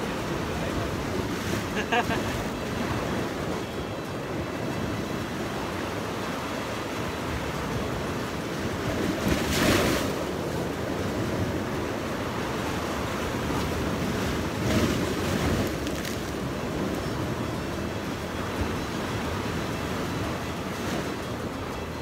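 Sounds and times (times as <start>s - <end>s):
sea waves washing against rocks: 0.0s - 22.0s.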